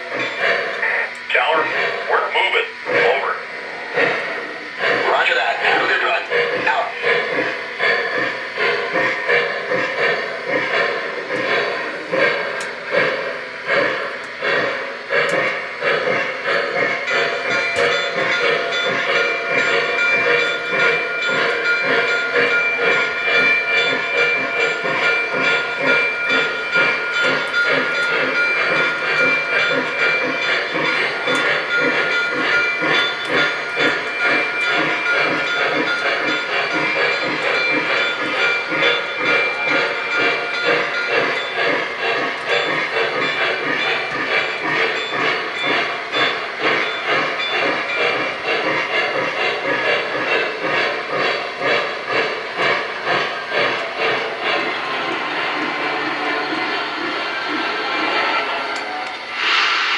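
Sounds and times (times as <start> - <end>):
model steam locomotive chuffing: 0.0 - 59.9.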